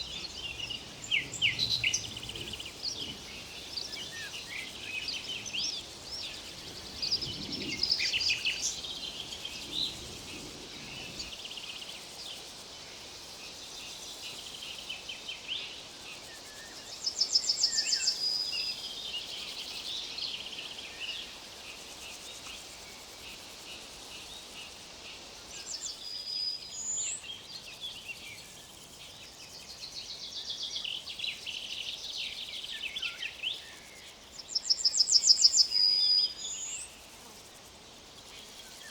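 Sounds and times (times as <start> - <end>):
songbirds singing: 0.0 - 23.3, 24.0 - 37.1
faint steady hiss: 0.0 - 38.9.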